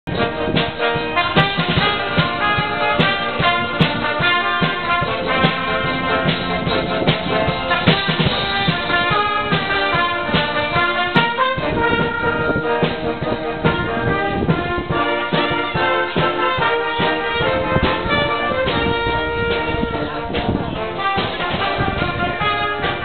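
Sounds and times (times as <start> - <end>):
brass band playing: 0.1 - 23.0.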